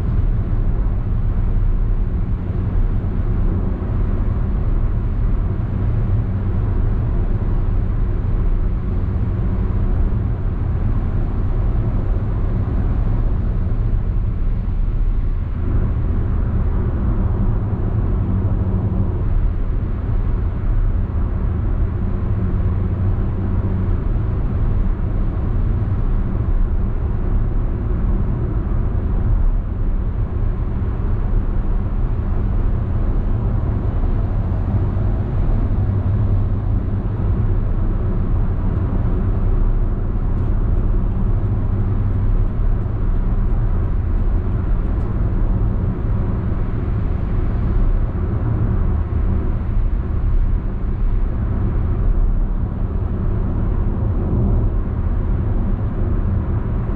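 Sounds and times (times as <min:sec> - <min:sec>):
car cabin road drone: 0:00.0 - 0:56.9.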